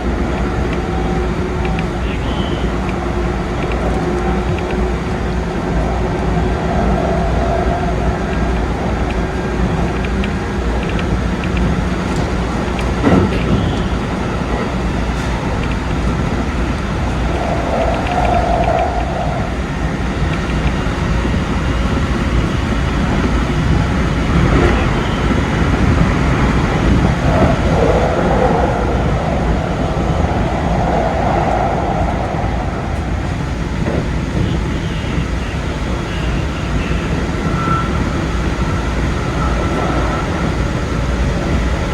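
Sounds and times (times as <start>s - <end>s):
electric train running: 0.0s - 41.9s
faint steady tones: 0.0s - 41.9s
track clicks: 0.0s - 41.9s.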